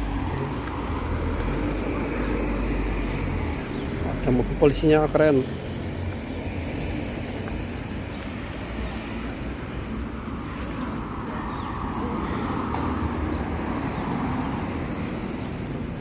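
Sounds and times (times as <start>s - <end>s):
street traffic hiss: 0.0s - 16.0s.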